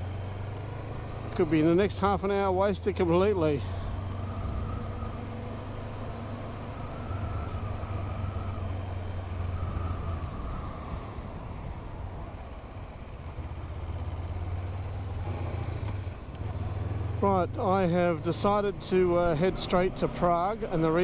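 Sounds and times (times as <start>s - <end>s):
motorcycle engine droning: 0.0s - 21.0s.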